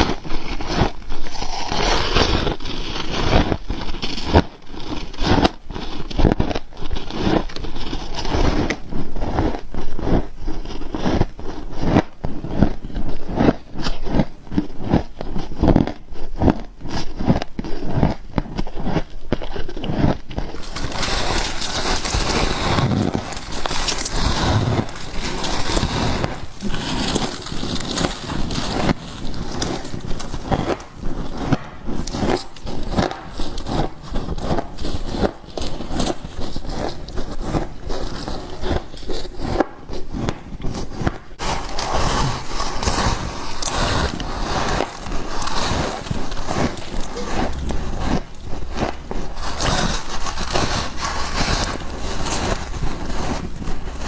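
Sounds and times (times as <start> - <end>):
chewing crunchy ice: 0.0 - 54.0.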